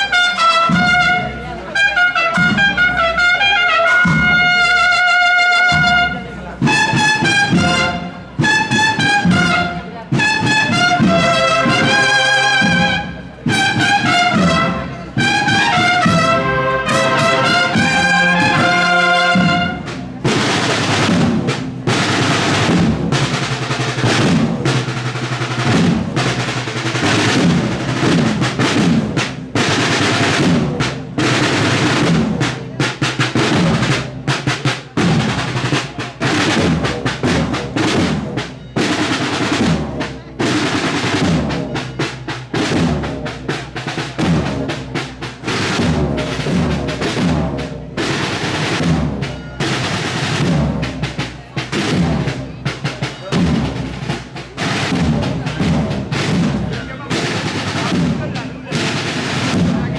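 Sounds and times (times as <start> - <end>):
brass band playing a march: 0.0 - 59.9
snare drum rolls: 0.1 - 59.9.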